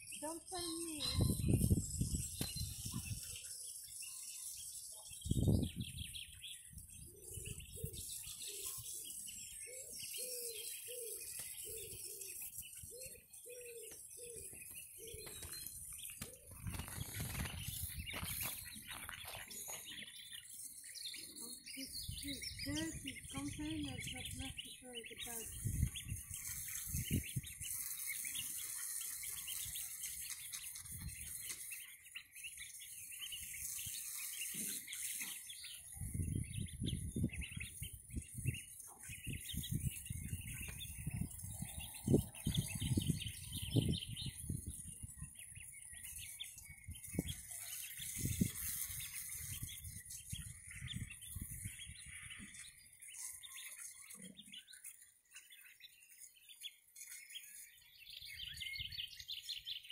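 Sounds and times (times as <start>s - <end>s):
ducklings peeping: 0.2s - 59.9s.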